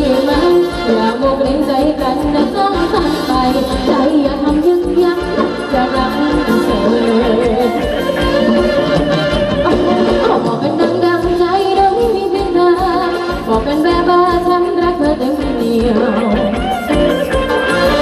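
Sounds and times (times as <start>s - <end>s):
person singing: 0.0s - 18.0s.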